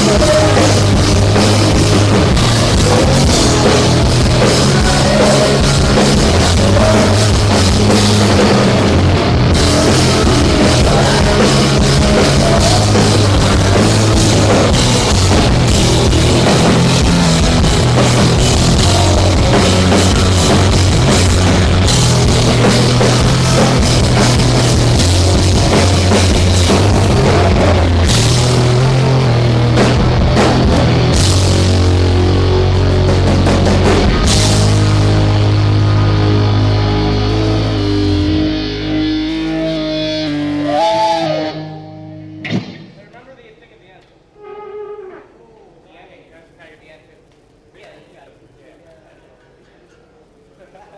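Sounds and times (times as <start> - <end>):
bass guitar low notes: 0.0 - 43.2
rock band playing: 0.0 - 43.2.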